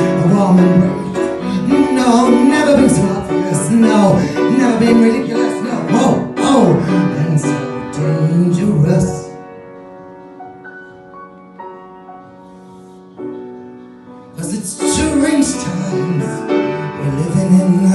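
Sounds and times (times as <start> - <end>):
instrumental music: 0.0 - 17.9.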